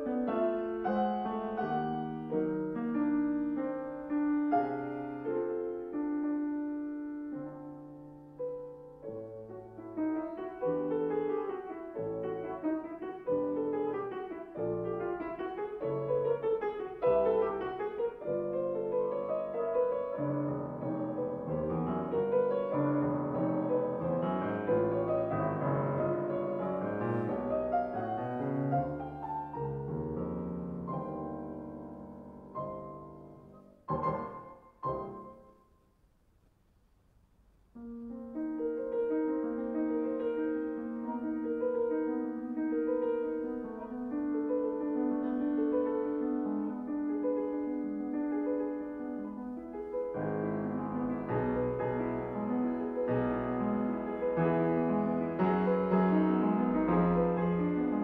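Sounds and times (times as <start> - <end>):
grand piano playing: 0.0 - 35.8, 37.8 - 58.0.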